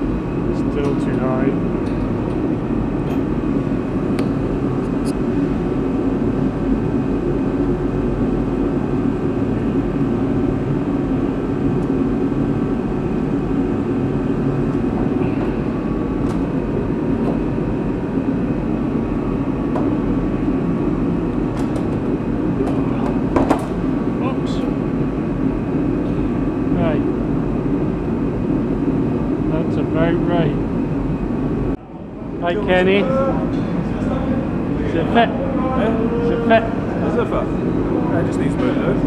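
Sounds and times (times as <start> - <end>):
machine drone: 0.0 - 39.0.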